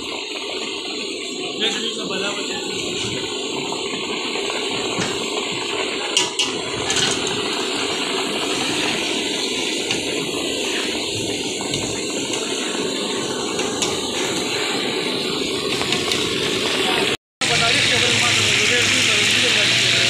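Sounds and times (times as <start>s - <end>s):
deep fryer hissing: 0.0s - 20.0s.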